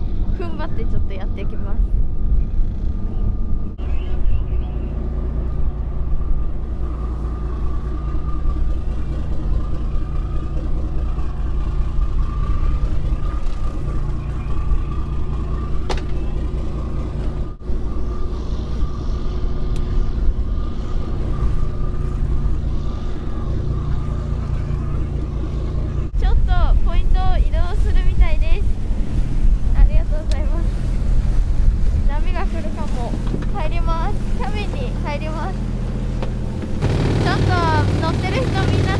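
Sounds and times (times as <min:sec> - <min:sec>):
boat engine rumbling: 0:00.0 - 0:38.9.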